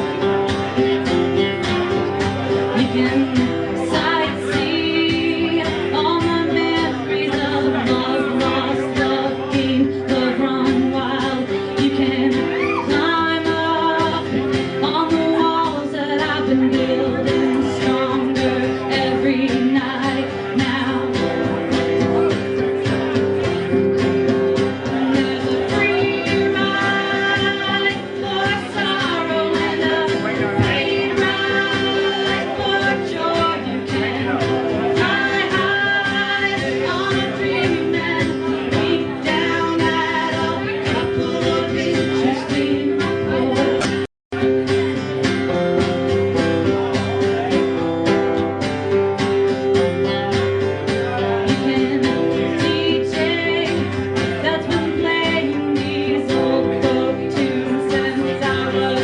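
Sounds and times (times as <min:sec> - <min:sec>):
acoustic guitar strumming: 0:00.0 - 0:59.0
person singing: 0:00.0 - 0:59.0.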